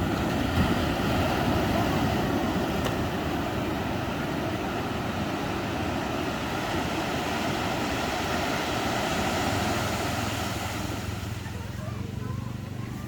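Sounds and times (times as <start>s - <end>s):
ocean waves washing onto beach: 0.0s - 13.0s.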